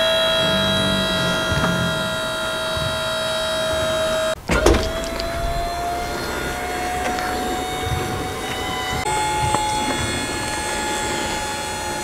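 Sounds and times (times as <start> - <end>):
hydraulic pump whining: 0.0 - 12.0.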